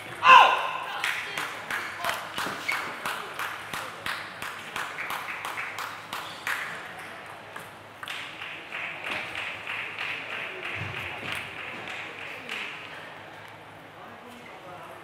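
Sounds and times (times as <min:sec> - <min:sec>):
spectators clapping and cheering: 0:00.0 - 0:07.2, 0:07.8 - 0:13.1.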